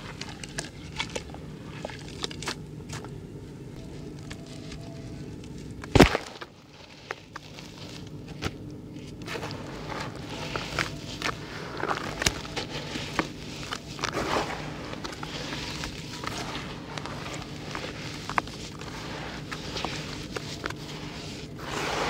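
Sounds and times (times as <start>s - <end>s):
wet mud mashing: 0.0s - 3.2s, 5.8s - 22.0s
dry earth crunching: 0.0s - 22.0s.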